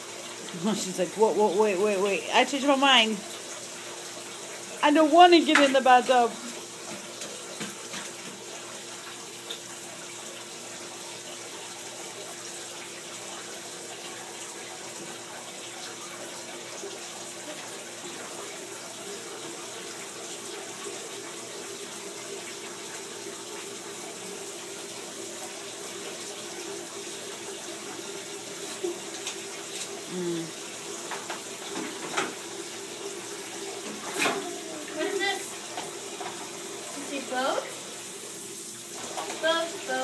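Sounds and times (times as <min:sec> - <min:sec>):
tap water running into tub: 0:00.0 - 0:40.0.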